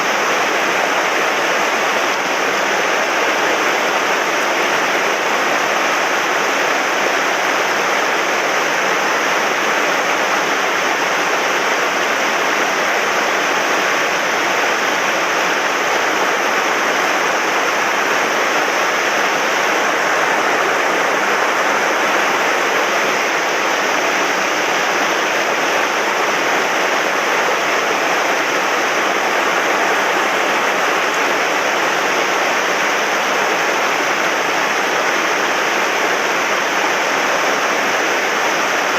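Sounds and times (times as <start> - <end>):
mountain stream rushing: 0.0 - 38.9.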